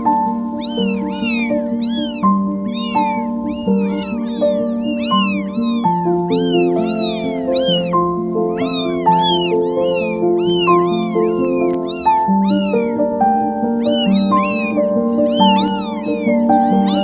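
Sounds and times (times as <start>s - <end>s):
background music of held notes: 0.0s - 17.0s
kittens meowing: 0.0s - 17.0s.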